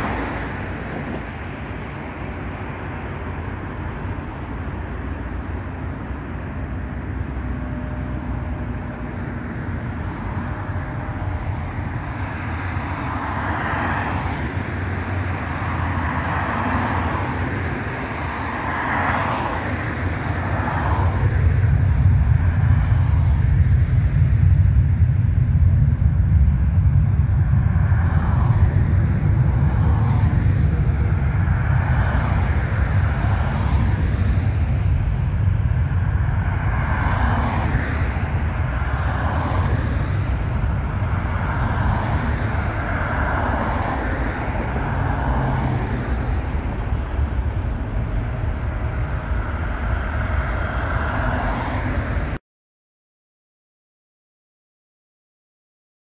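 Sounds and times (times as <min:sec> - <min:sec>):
distant jet engines rumbling: 0:00.0 - 0:52.4.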